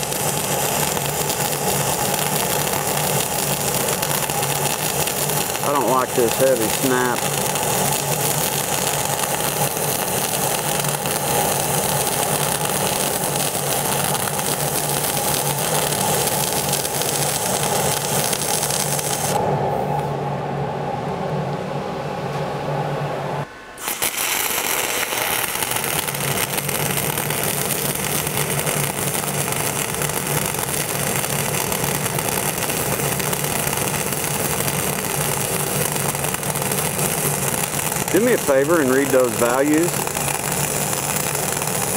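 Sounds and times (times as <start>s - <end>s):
welding arc crackling: 0.0s - 19.4s, 23.8s - 41.9s.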